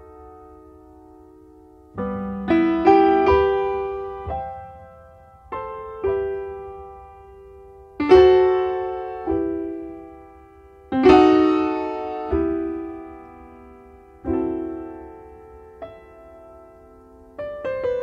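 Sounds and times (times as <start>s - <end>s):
slow quiet piano chords: 0.0s - 18.0s.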